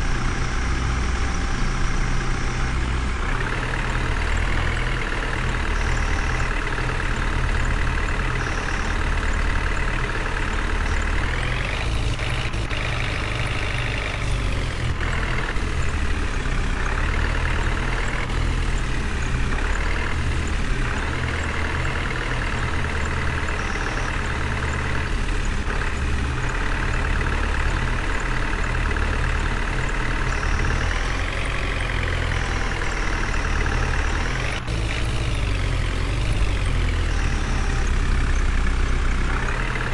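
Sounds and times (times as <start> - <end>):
heavy vehicle engine revving: 0.0 - 39.9.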